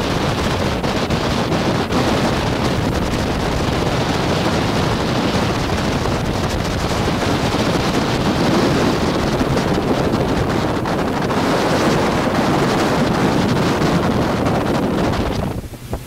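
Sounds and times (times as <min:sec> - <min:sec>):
boat engine rushing: 0:00.0 - 0:16.0
water rushing: 0:00.0 - 0:16.0
wind buffeting microphone: 0:00.0 - 0:16.0.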